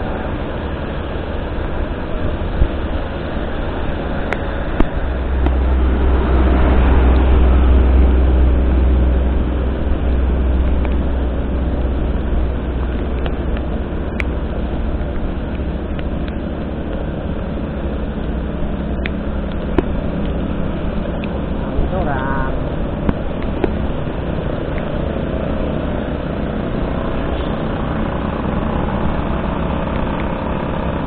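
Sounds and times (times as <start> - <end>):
vehicle engine and road rumble: 0.0 - 31.0.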